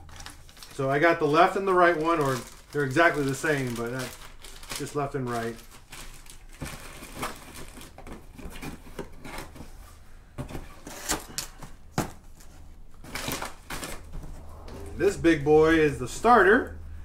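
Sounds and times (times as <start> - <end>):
packaging rustling: 0.0 - 9.8, 10.4 - 15.2.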